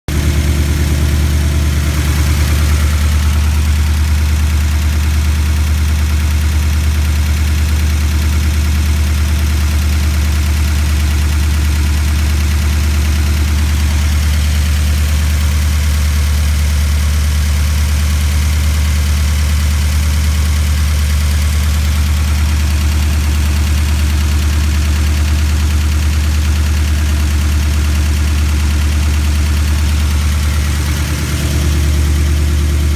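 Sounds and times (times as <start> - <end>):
car engine idling: 0.1 - 32.9.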